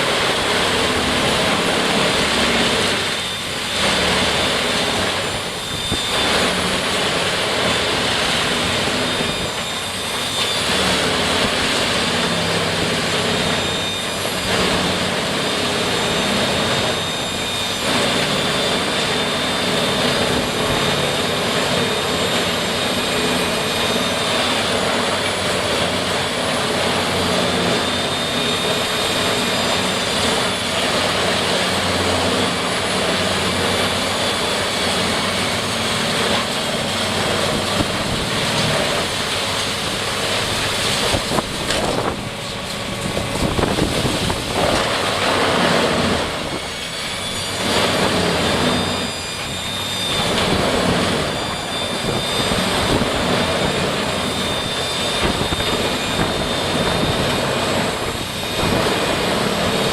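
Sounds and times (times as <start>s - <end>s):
wood chipper running: 0.0s - 59.9s.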